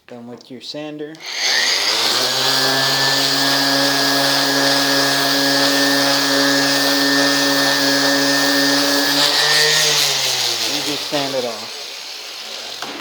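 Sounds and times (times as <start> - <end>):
electric sander running: 1.2 - 13.0.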